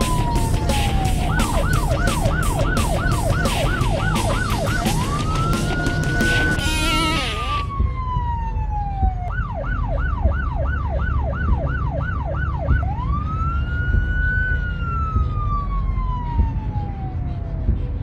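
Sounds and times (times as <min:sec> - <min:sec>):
emergency vehicle siren: 0:00.0 - 0:18.0
low rumble: 0:02.6 - 0:18.0.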